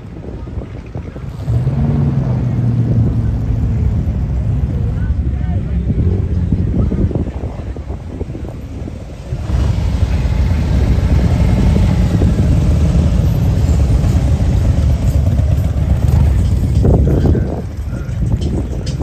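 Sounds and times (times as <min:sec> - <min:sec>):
car engine running: 0:00.2 - 0:19.0.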